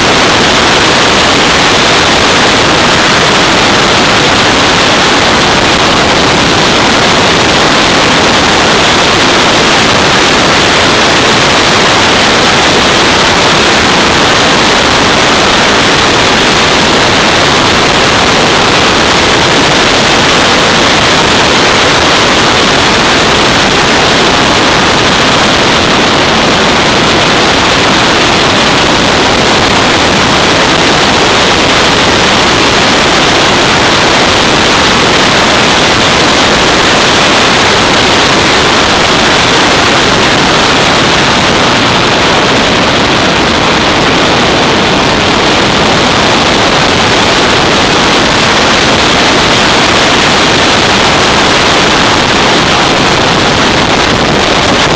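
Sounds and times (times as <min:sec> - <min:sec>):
wind rush on microphone: 0:00.0 - 0:54.9.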